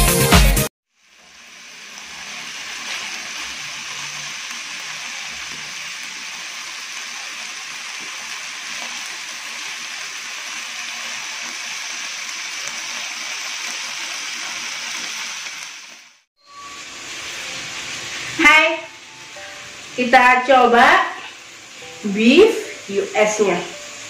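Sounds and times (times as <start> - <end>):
meat sizzling on grill pan: 0.9 - 24.0.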